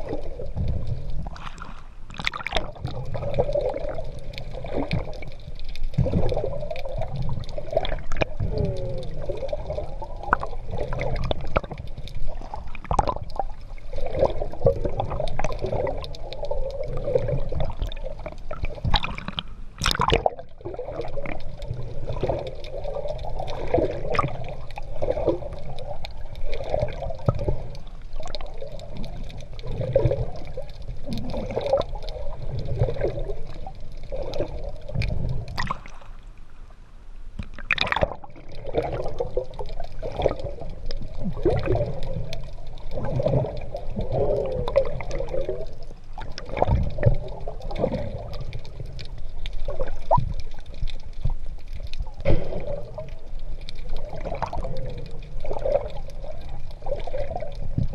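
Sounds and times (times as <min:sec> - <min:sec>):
water sloshing and gurgling: 0:00.0 - 0:57.9.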